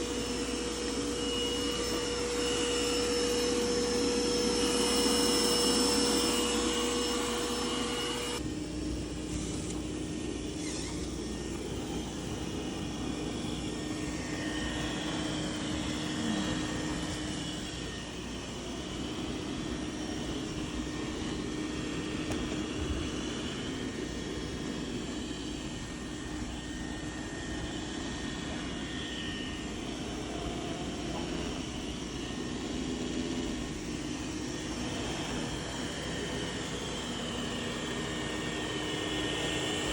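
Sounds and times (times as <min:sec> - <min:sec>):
robot vacuum whirring: 0:00.0 - 0:39.9.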